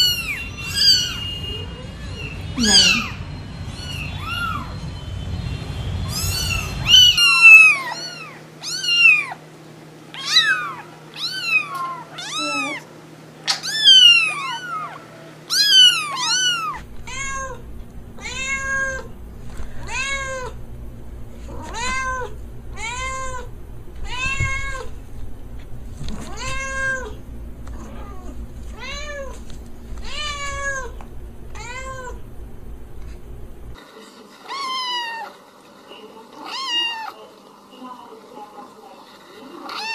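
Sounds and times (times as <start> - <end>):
cats meowing: 0.0 - 4.9, 6.0 - 9.5, 10.1 - 33.8, 34.4 - 35.4, 36.4 - 37.2, 39.5 - 39.9.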